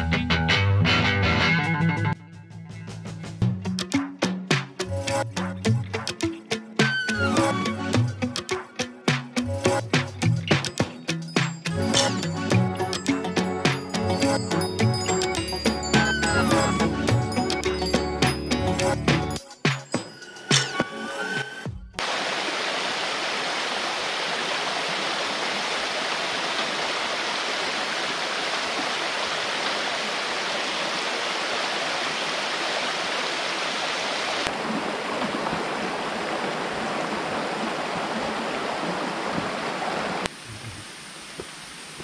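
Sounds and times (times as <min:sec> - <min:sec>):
rushing water: 0:04.7 - 0:19.4, 0:20.6 - 0:42.0.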